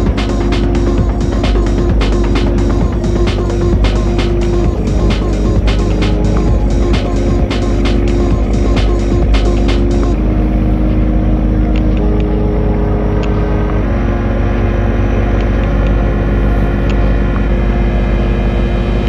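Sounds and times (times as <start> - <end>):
electronic music with synth chords: 0.0 - 19.0.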